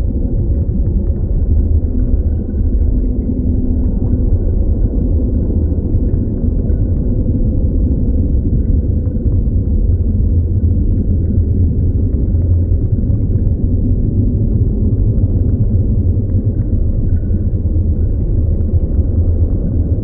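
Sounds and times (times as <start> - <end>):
deep low rumble: 0.0 - 20.0.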